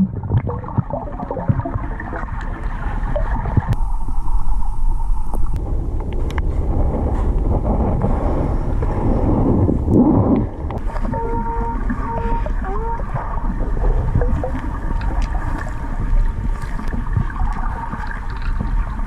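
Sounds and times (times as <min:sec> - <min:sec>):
underwater rush of moving water: 0:00.0 - 0:19.0.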